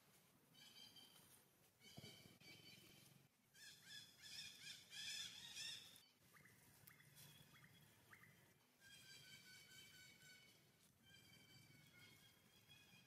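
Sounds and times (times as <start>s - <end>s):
faint birdsong: 0.5s - 13.0s.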